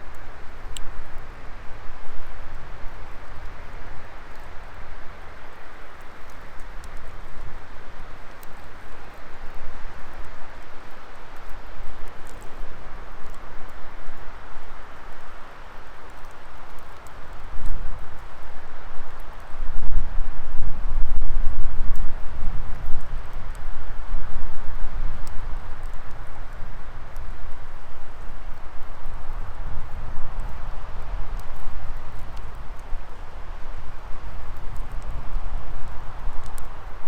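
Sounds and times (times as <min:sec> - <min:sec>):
wood fire hissing and crackling: 0:00.0 - 0:37.0.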